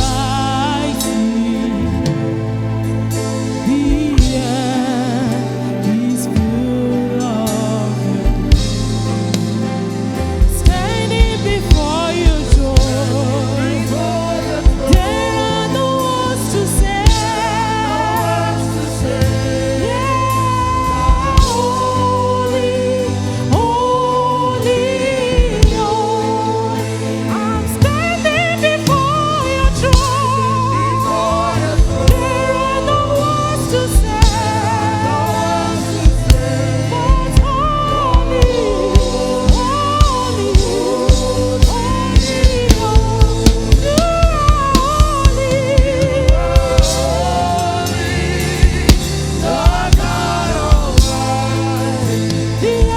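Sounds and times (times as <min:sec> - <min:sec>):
drum kit beat: 0:00.0 - 0:02.4, 0:03.1 - 0:26.4, 0:27.3 - 0:52.9
live band playing: 0:00.0 - 0:52.9
person singing with vibrato: 0:00.0 - 0:52.9.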